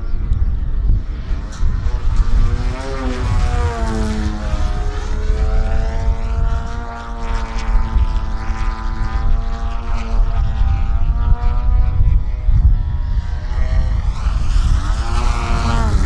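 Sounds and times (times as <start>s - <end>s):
low rumble: 0.0s - 16.0s
model plane engine droning: 0.0s - 16.0s.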